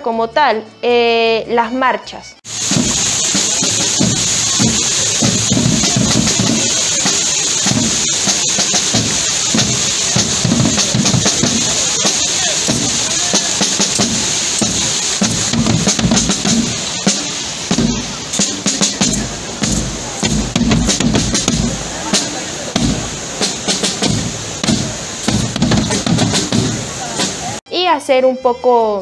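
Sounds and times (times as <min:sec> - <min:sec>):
bass drum beat: 0:02.5 - 0:27.6
snare drums: 0:02.5 - 0:27.6.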